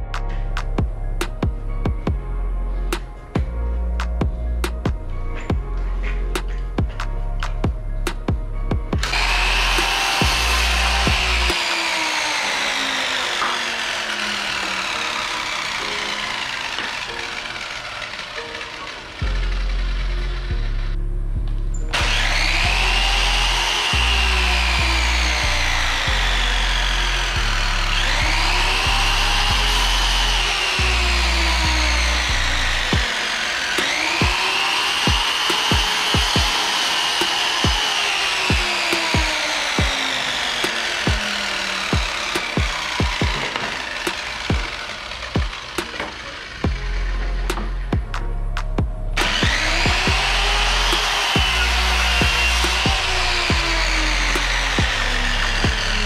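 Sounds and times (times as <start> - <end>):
background music with beat: 0.0 - 11.7, 20.5 - 56.0
miter saw whining: 0.0 - 56.0.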